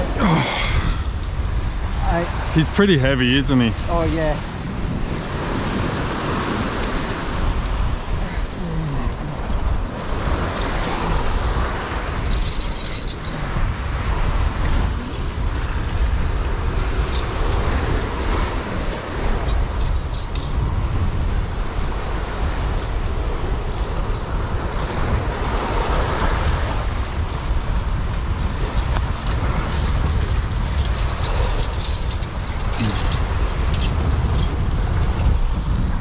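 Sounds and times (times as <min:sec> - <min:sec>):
surf washing: 0:00.0 - 0:36.0
wind rumble on microphone: 0:00.0 - 0:36.0.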